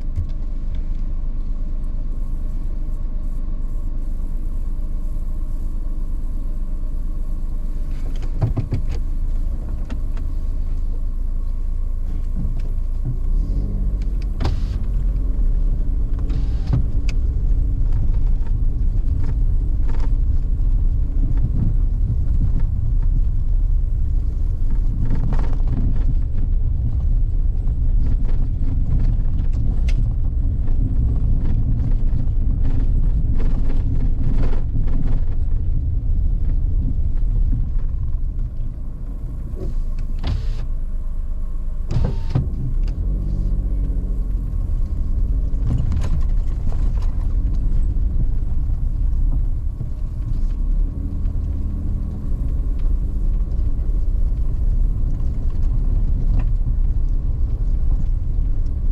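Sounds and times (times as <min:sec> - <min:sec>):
car engine and tyres rumbling: 0:00.0 - 0:58.9.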